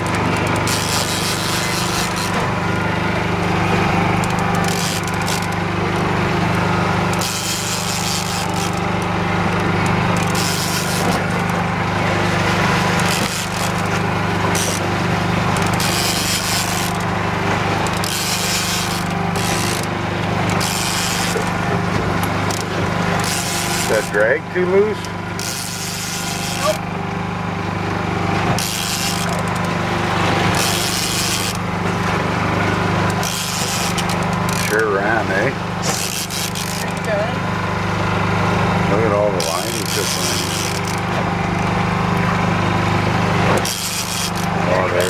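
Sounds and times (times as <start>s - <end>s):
outboard boat motor running: 0.0s - 45.0s.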